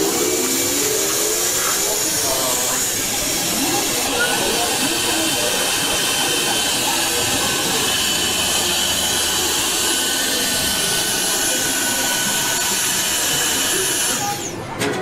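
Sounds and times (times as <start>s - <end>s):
suction pump rushing air: 0.0s - 14.7s.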